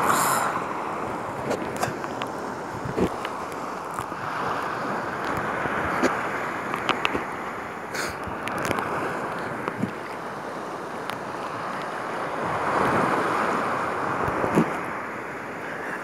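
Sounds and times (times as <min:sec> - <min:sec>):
small waves lapping against kayak: 0:00.0 - 0:16.0
wind rumbling on microphone: 0:00.0 - 0:16.0.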